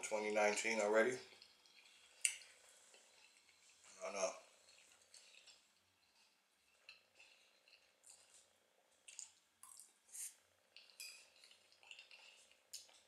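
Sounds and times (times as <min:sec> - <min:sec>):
chewing with wet mouth clicks: 0:01.2 - 0:10.0, 0:10.7 - 0:13.0.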